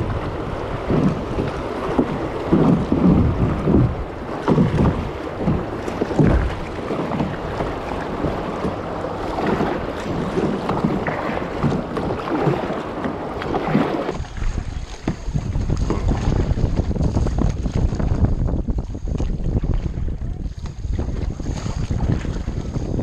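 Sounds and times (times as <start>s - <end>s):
water lapping around kayak: 0.0s - 23.0s
wind rumbling on microphone: 0.0s - 23.0s.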